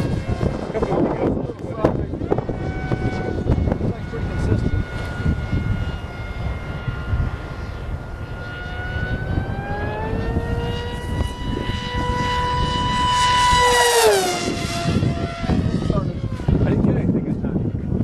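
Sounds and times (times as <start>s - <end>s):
model jet motor whine: 0.0s - 17.9s.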